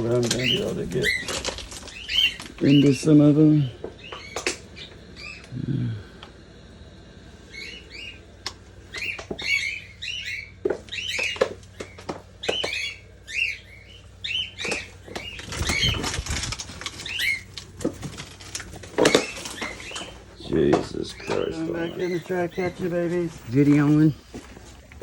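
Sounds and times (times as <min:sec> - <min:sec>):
wings fluttering: 0:00.0 - 0:05.6, 0:06.2 - 0:25.0
parrots chirping: 0:00.0 - 0:25.0.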